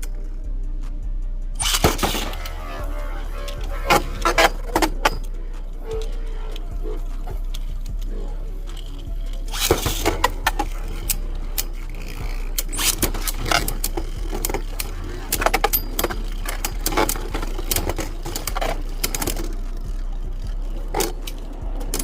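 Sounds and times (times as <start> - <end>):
steady low hum: 0.0 - 22.0
spinning tops clashing: 1.6 - 19.8.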